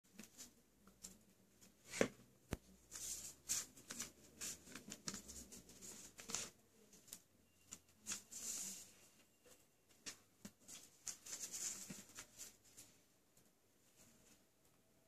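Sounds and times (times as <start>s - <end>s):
paper rustling and crackling: 0.1s - 13.0s.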